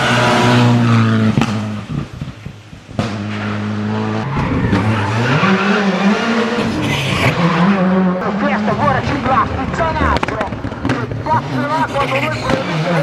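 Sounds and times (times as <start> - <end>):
rally car engine revving: 0.0 - 13.0
exhaust cracks: 0.6 - 13.0.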